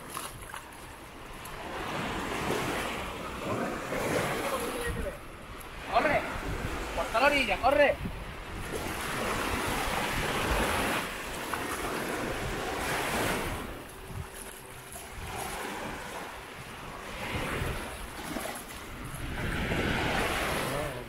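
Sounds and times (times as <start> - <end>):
sea waves breaking on beach: 0.0 - 21.0
wind buffeting microphone: 0.0 - 21.0.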